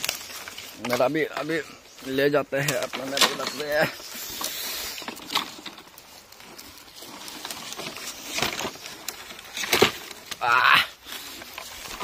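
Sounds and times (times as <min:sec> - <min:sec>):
bamboo and leaves rustling: 0:00.0 - 0:12.0.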